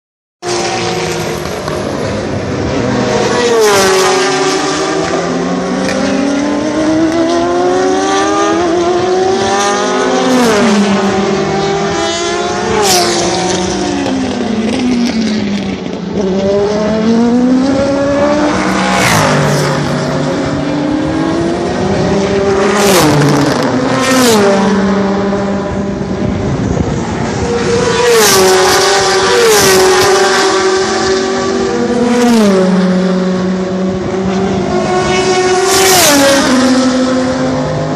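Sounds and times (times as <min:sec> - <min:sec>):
race car engine at full throttle: 0:00.4 - 0:37.9
race cars passing at speed: 0:00.4 - 0:37.9.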